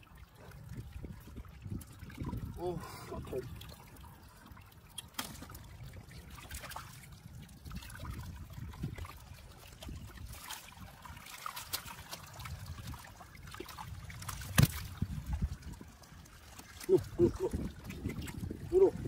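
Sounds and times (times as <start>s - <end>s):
shallow water trickling and sloshing: 0.0s - 19.0s
small splashes and clicks: 0.5s - 2.5s, 3.2s - 19.0s.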